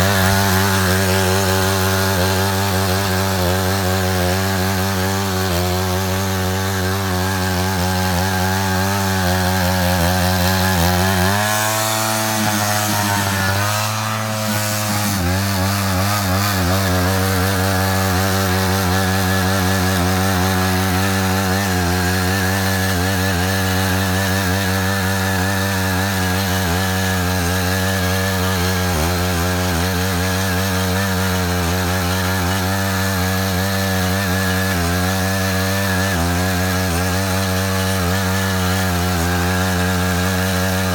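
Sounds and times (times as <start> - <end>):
tiller engine running under load: 0.0 - 40.9.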